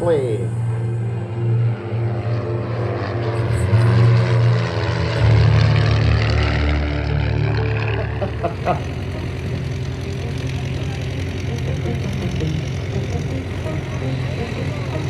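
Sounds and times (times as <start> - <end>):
propeller airplane engines: 0.0 - 15.0.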